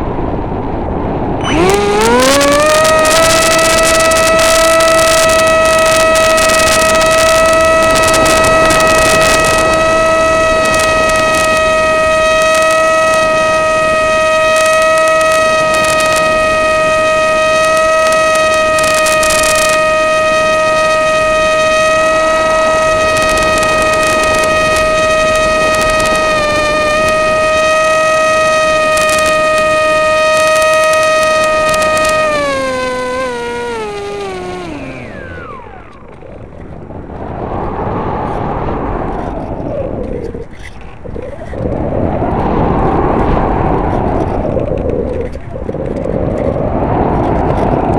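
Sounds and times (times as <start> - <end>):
electric motor and propeller whine: 0.0 - 47.9
wind buffeting microphone: 0.0 - 47.9.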